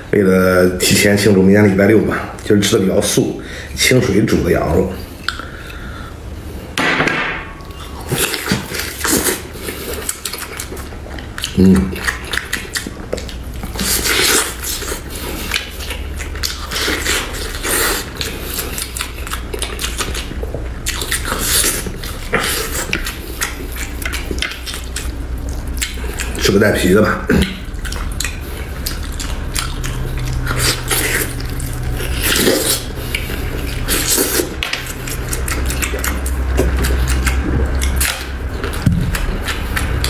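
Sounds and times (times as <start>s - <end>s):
man biting and chewing meat: 4.5s - 40.0s.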